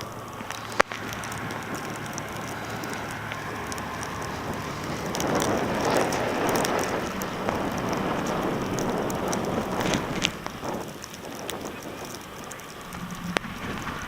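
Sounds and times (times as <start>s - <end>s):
blizzard wind rushing: 0.0s - 14.0s
small ticks: 0.0s - 14.0s.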